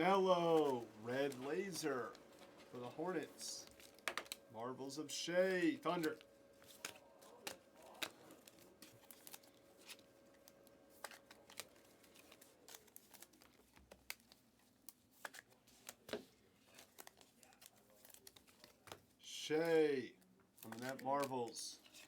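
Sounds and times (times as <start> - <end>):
pack wrappers crinkling: 0.0 - 4.7, 5.4 - 19.1, 20.6 - 22.0
trading cards clicking and sliding: 0.0 - 4.8, 5.4 - 19.9, 20.6 - 22.0.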